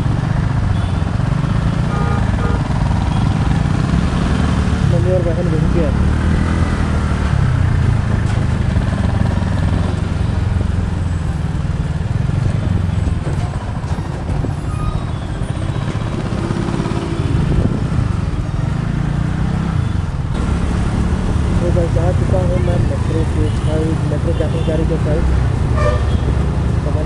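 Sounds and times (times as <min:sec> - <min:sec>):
scooter engine and road noise: 0:00.0 - 0:27.0.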